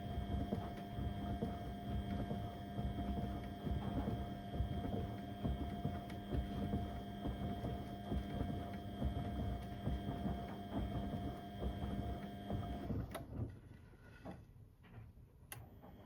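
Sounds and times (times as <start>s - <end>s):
washing machine motor whine: 0.0s - 13.5s.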